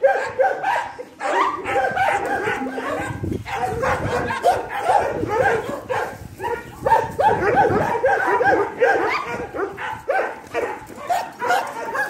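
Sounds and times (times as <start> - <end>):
dogs yipping and barking: 0.0 - 12.0.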